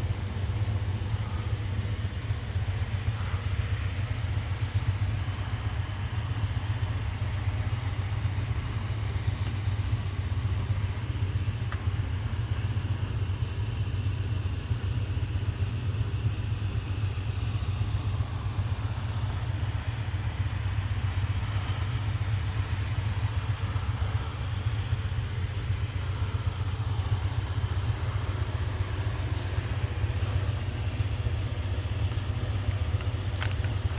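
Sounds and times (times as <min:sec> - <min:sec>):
coolers running low roar: 0:00.0 - 0:33.9.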